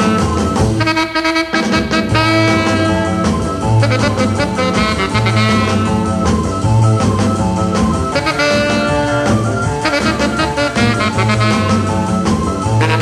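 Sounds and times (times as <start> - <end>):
saxophone-led rock and roll band: 0.0 - 13.0.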